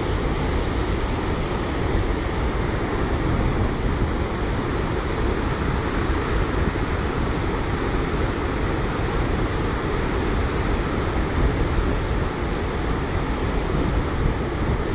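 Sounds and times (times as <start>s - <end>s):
water rushing through floodgates: 0.0s - 14.9s.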